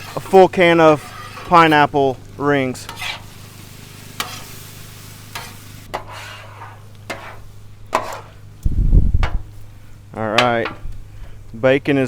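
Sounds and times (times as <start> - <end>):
food sizzling on a griddle: 0.0 - 11.4.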